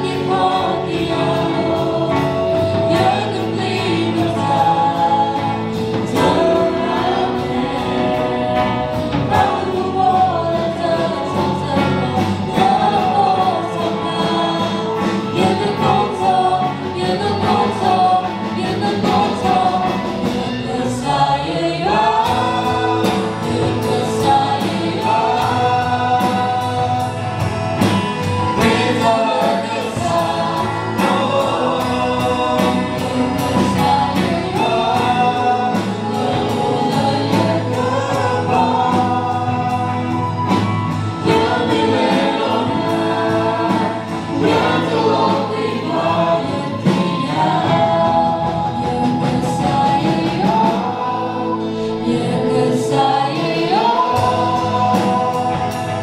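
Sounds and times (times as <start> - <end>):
live band: 0.0 - 56.0
singers singing a worship song: 0.0 - 56.0
steady drum beat: 0.0 - 56.0.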